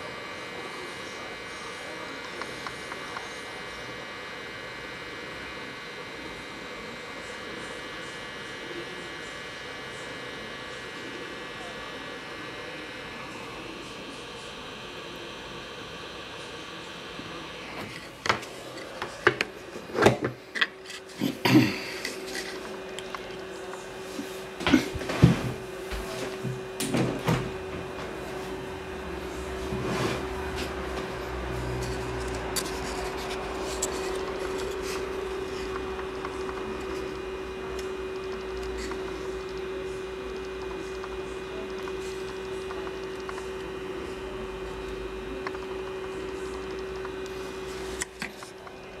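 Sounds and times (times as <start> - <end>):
soldering equipment humming: 0.0 - 49.0.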